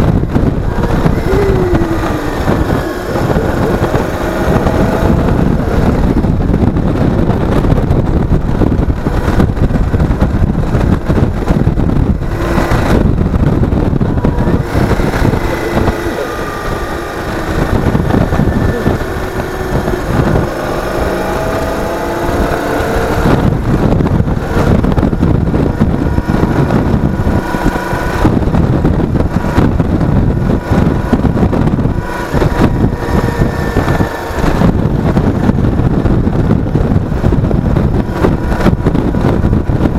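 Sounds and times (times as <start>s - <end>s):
vehicle engine revving: 0.0s - 39.9s
wind noise on microphone: 0.0s - 39.9s.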